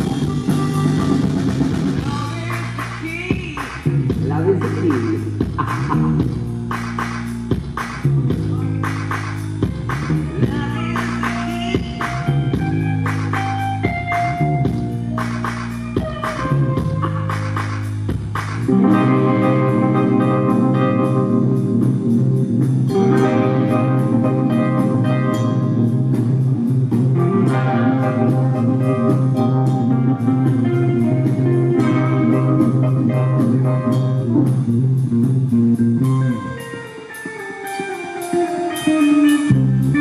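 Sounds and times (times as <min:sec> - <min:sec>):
rock band playing live: 0:00.0 - 0:40.0.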